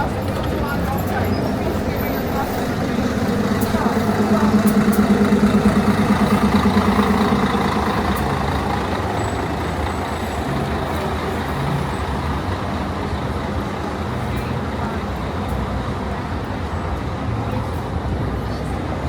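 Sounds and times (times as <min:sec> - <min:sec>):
large vehicle engine pulsing: 0:00.0 - 0:19.0
street traffic noise: 0:00.0 - 0:19.0.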